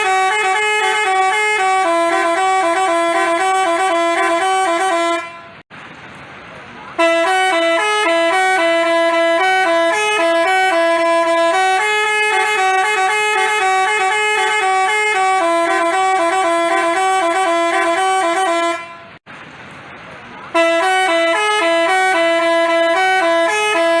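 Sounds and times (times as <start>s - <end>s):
multi-tone horn playing a tune: 0.0s - 5.6s, 7.0s - 19.2s, 20.5s - 24.0s.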